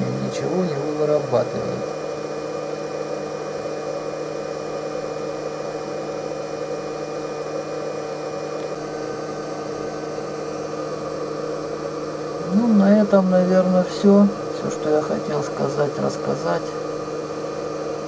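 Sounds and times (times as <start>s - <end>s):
electrical hum with held tones: 0.0s - 18.0s.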